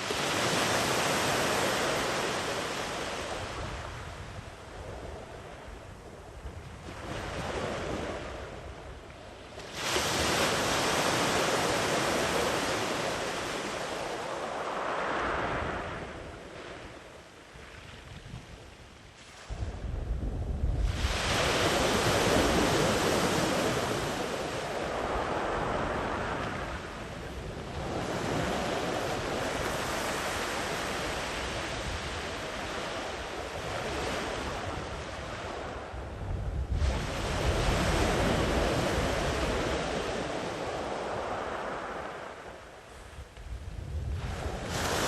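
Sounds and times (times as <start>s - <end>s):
sea waves breaking on shore: 0.0s - 5.6s, 6.8s - 18.2s, 20.8s - 43.3s, 44.0s - 45.0s.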